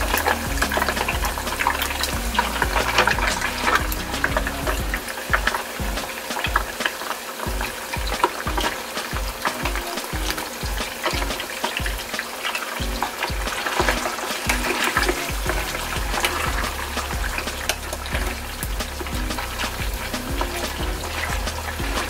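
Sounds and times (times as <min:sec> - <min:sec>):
background music with steady beat: 0:00.0 - 0:22.0
meat deep-frying in oil: 0:00.0 - 0:22.0.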